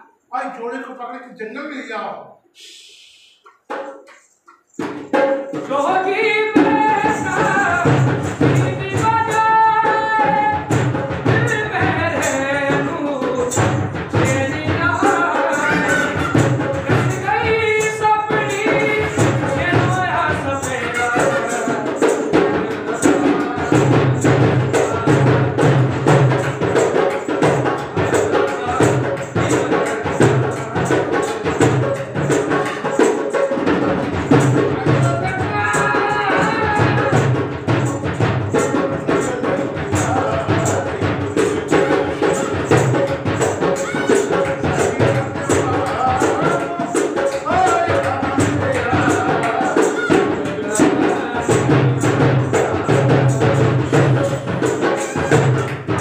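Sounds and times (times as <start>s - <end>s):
jingling hand percussion: 2.6s - 56.0s
music with drum beat: 2.6s - 56.0s.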